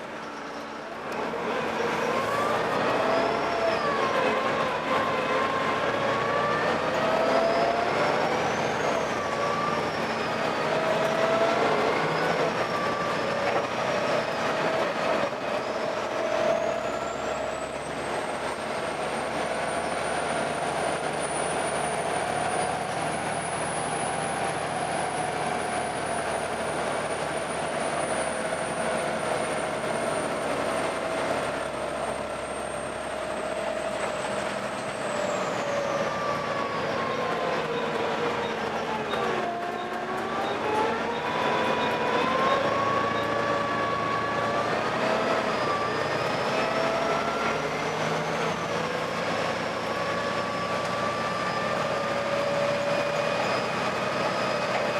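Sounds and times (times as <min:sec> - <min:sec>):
bus diesel engine running: 0:00.0 - 0:54.9
high-pitched engine whine: 0:00.0 - 0:54.9.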